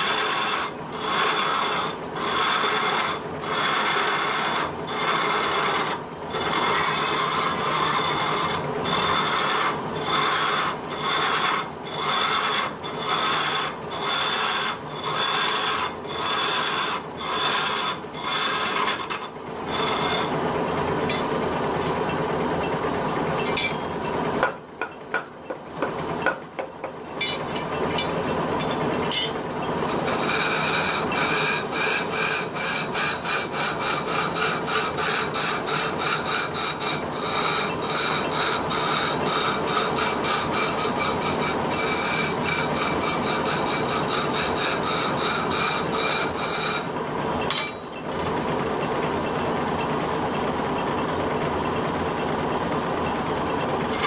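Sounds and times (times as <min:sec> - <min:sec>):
wood lathe tool scraping wood: 0:00.0 - 0:21.8, 0:27.4 - 0:49.7, 0:50.6 - 0:54.0.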